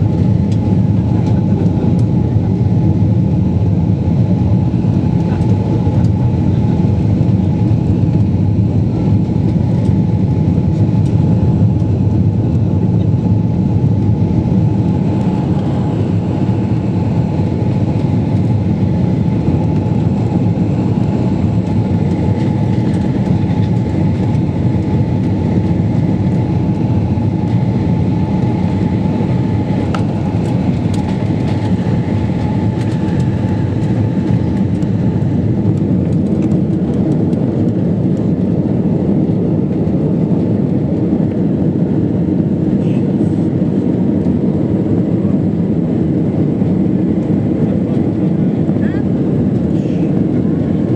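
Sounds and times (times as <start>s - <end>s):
constant whine: 0.0s - 50.9s
jet airliner cabin rumble: 0.0s - 50.9s.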